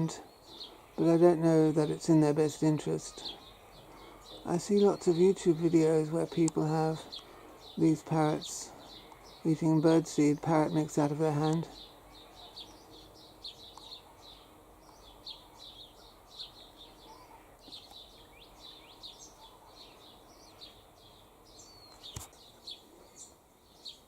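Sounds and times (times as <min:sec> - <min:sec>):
birds chirping: 0:00.0 - 0:24.0
faint outdoor background noise: 0:00.0 - 0:24.0.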